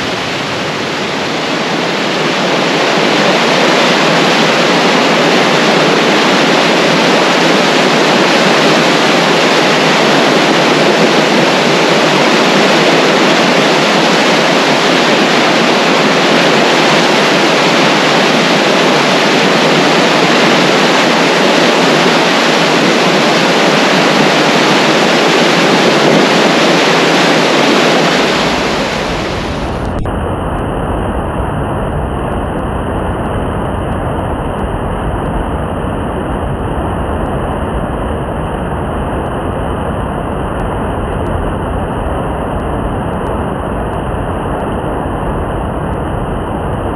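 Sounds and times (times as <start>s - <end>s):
deep water rumble: 0.0s - 46.9s
fast water rushing: 0.0s - 46.9s.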